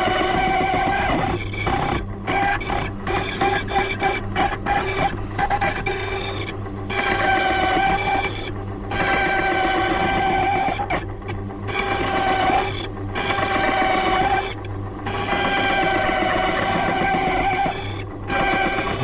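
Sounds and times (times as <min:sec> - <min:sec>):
key cutting machine whine: 0:00.0 - 0:19.0
motor hum: 0:00.0 - 0:19.0.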